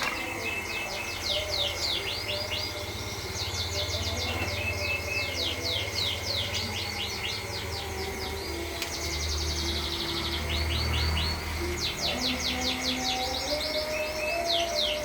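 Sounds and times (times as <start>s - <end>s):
canaries chirping and singing: 0.0s - 15.0s.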